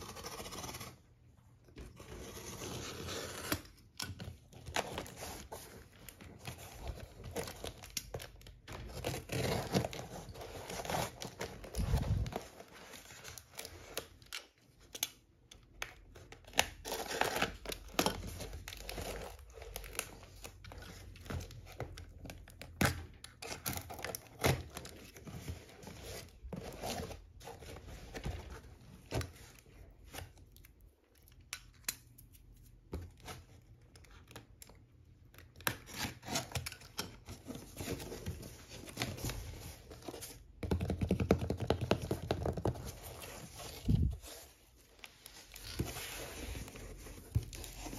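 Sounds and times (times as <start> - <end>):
cardboard crinkling and scraping: 0.0 - 14.9, 16.1 - 31.0, 32.7 - 47.9.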